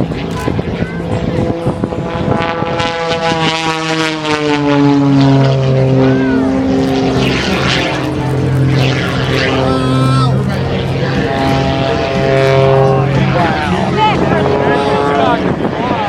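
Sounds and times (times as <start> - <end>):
propeller airplane flying past: 0.0 - 16.0.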